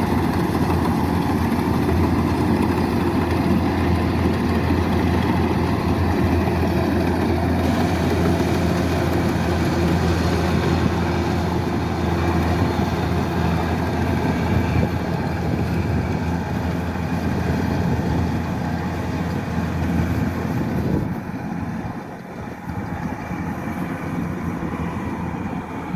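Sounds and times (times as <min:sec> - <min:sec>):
diesel engine running steadily: 0:00.0 - 0:25.9
machinery noise: 0:00.0 - 0:25.9.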